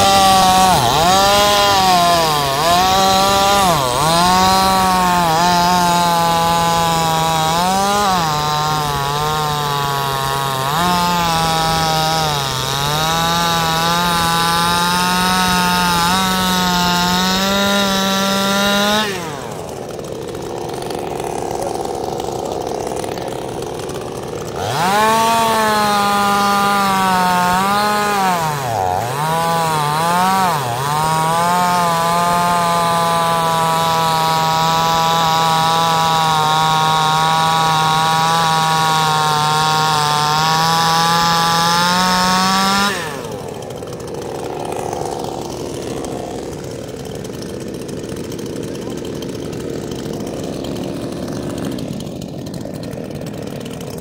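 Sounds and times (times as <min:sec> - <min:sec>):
chainsaw cutting a log: 0:00.0 - 0:54.0.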